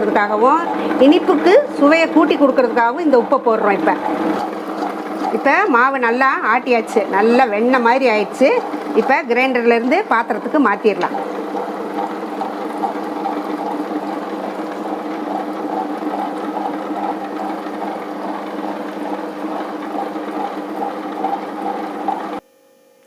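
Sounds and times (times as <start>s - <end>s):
wet grinder motor hum: 0.0s - 22.4s.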